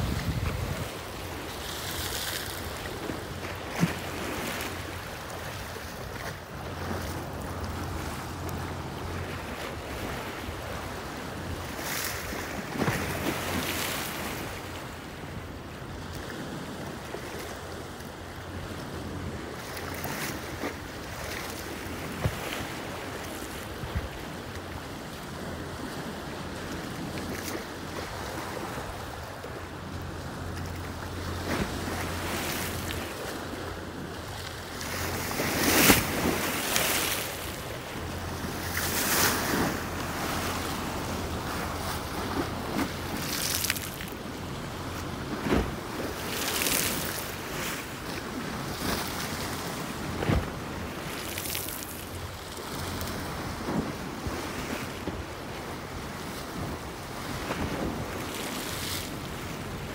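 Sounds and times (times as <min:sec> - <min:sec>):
waves splashing against a wall: 0:00.0 - 0:59.9
wind rumble on microphone: 0:00.0 - 0:59.9.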